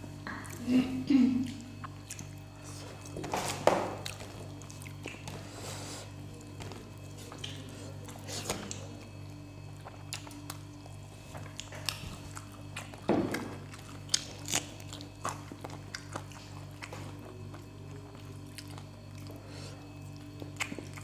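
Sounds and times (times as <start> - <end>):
people chewing: 0.0 - 21.0
steady low hum: 0.0 - 21.0.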